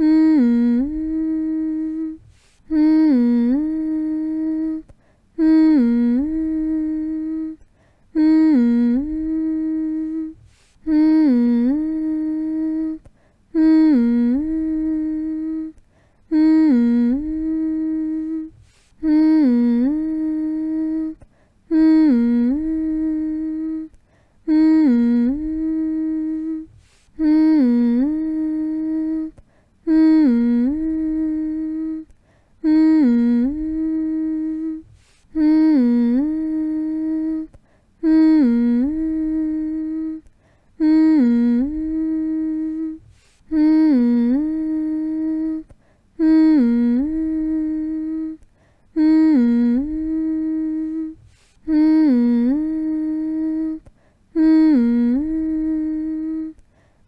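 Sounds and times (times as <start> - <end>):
person humming: 0.0 - 56.7.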